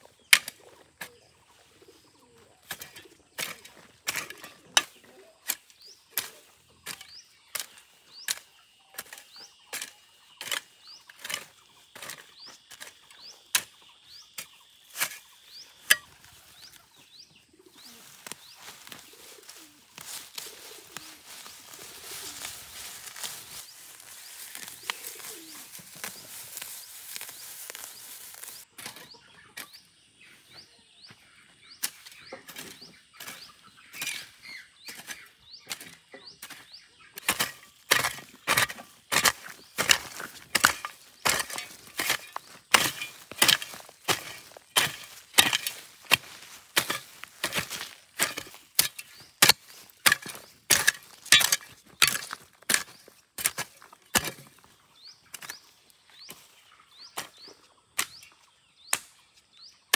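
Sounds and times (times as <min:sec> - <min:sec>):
birds chirping faintly: 0:00.0 - 0:59.9.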